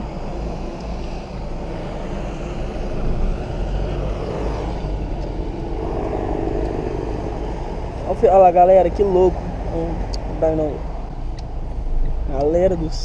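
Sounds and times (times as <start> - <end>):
car engine running: 0.0 - 13.0
low road rumble: 0.0 - 13.0.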